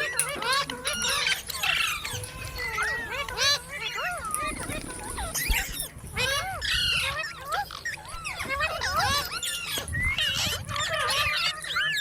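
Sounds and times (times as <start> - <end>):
parakeets chattering: 0.0 - 12.0.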